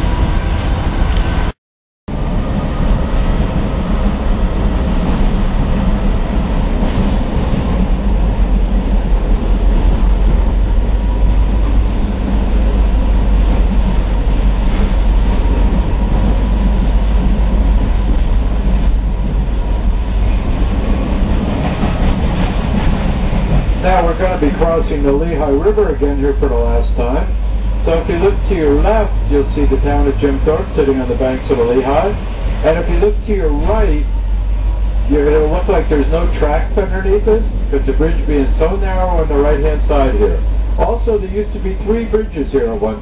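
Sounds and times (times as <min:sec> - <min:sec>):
train wheels rumbling on rails: 0:00.0 - 0:01.5, 0:02.1 - 0:43.0.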